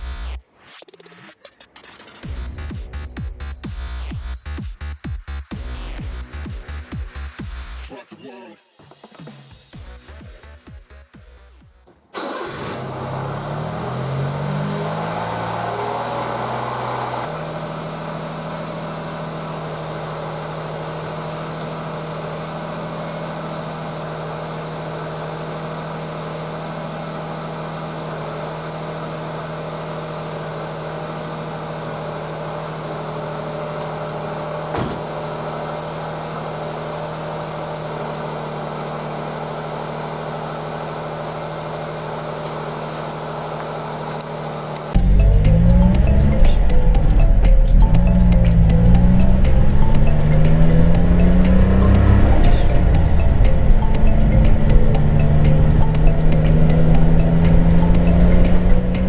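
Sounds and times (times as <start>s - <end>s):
car engine humming steadily: 9.8s - 59.0s.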